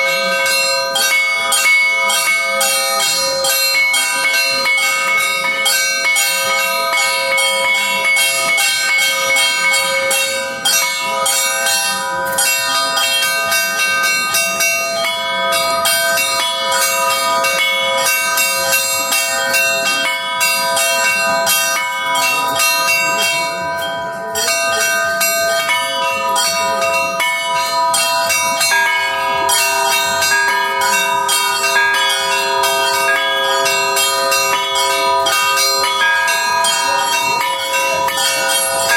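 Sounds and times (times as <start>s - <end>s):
church bells ringing: 0.0s - 38.9s
deep bell: 0.0s - 38.9s.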